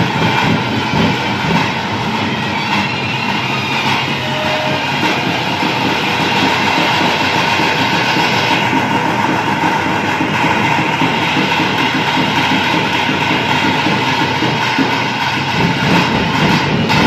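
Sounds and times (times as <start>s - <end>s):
fast drumming: 0.0s - 17.0s
steady high held tone: 0.0s - 17.0s.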